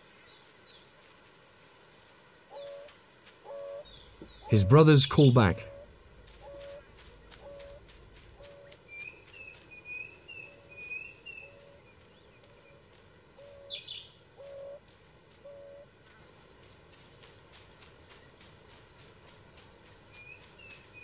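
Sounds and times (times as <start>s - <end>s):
small birds twittering: 0.0s - 4.6s, 5.6s - 14.8s, 15.4s - 21.0s.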